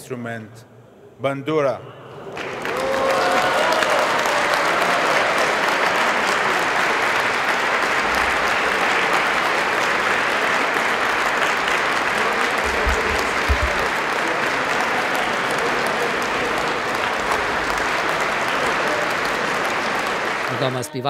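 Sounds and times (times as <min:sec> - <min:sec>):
audience applauding: 0:02.3 - 0:20.9.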